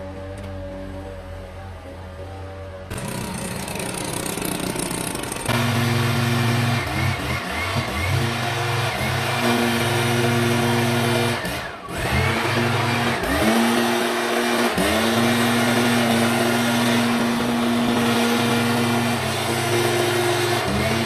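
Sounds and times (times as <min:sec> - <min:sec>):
leaf blower engine revving: 0:02.9 - 0:21.0.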